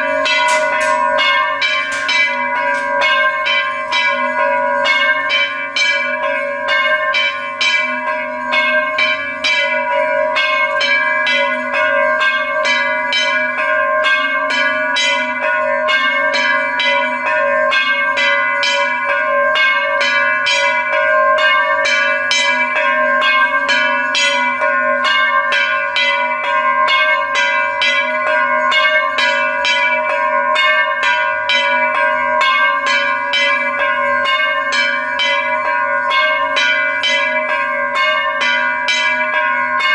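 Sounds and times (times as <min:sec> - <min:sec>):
temple bells rung rapidly: 0:00.0 - 0:39.9.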